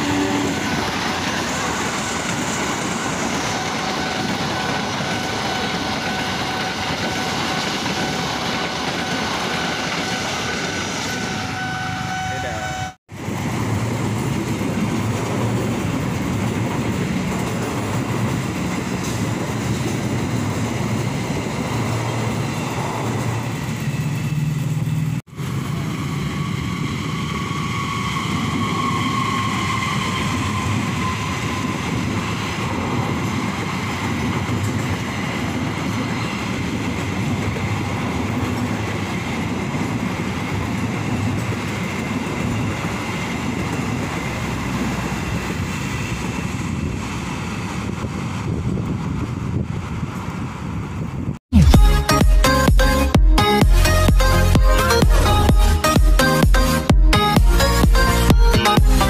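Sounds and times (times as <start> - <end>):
trains rumbling past on rails: 0.0 - 59.0.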